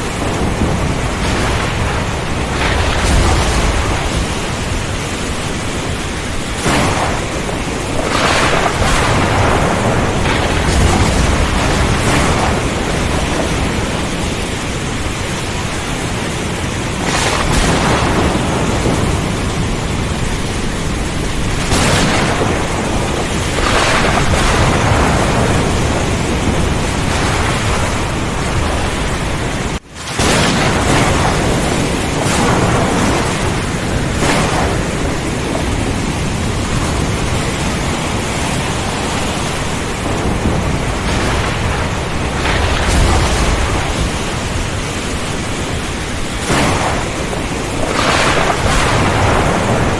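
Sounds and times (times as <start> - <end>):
heavy rain: 0.0 - 49.9
low rumble of thunder: 0.0 - 49.9.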